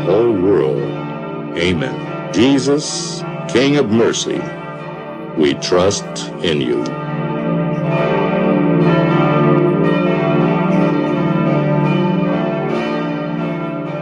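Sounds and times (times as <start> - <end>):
church bells pealing: 0.0 - 14.0.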